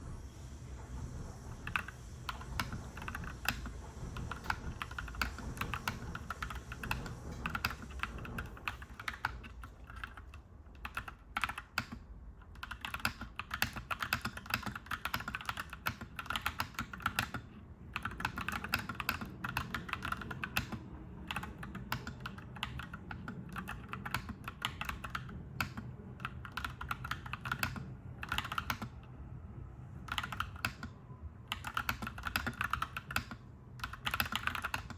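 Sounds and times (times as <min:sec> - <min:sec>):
mechanical keyboard typing: 0:01.6 - 0:29.1, 0:30.0 - 0:34.9.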